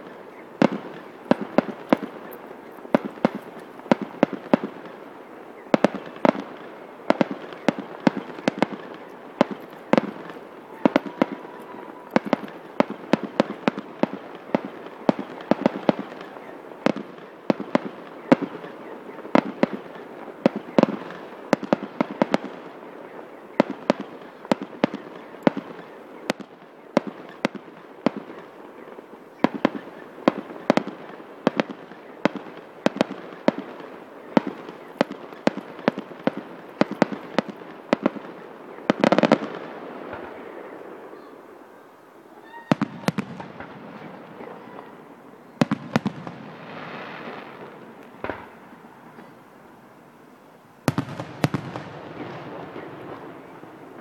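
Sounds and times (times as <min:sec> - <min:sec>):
fireworks bangs and pops: 0:00.0 - 0:40.6, 0:42.4 - 0:49.4, 0:50.8 - 0:54.0.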